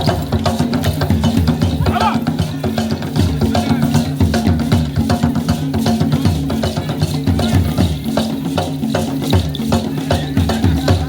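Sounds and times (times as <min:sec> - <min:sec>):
music with drums and percussion: 0:00.0 - 0:11.0.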